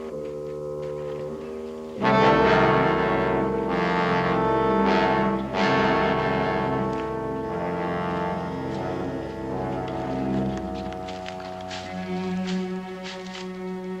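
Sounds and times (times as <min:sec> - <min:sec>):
orchestral brass music: 0:00.0 - 0:14.0.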